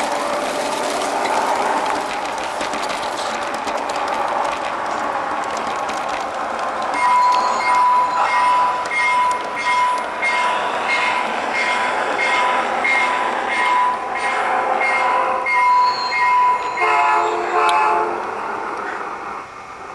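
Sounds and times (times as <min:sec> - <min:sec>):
light clicking of train wheels: 0:00.0 - 0:16.8.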